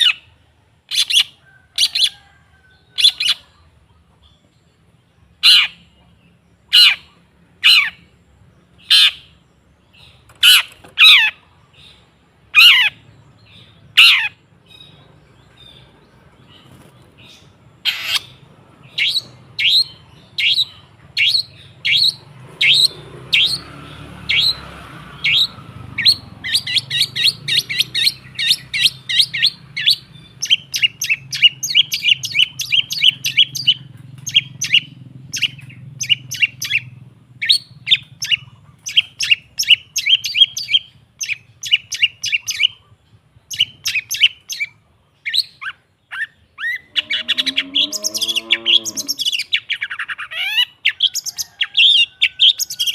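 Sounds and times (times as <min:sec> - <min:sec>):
shrike chirping and chattering: 0:05.3 - 0:52.9.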